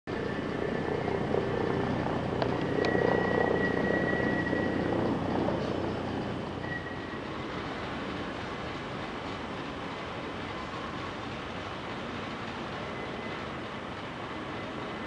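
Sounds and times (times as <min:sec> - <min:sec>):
helicopter rotor and turbine: 0:00.1 - 0:15.0.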